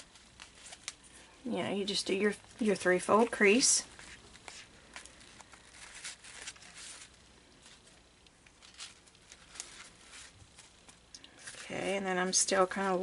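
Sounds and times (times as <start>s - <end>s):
ribbon rustling and crinkling: 0.0s - 13.0s.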